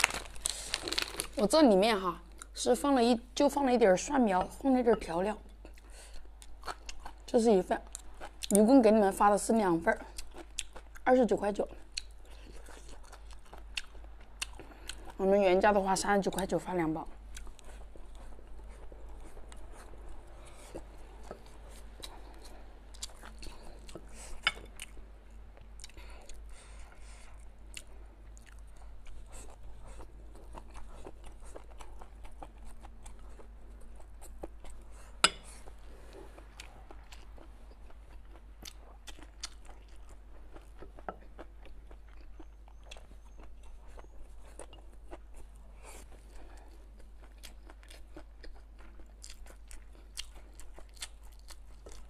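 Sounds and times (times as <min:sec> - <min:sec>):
person chewing and crunching: 0:00.0 - 0:01.5, 0:05.5 - 0:08.6, 0:10.0 - 0:15.2, 0:17.2 - 0:52.0.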